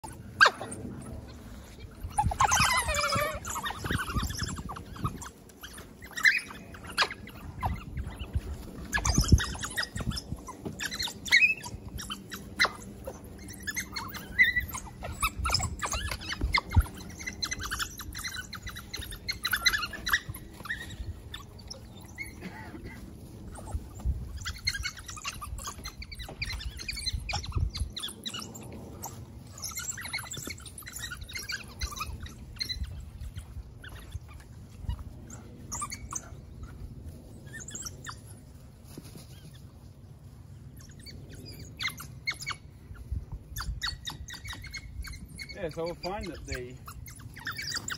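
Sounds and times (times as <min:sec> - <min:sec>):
dogs chirping and twittering: 0:00.0 - 0:47.9.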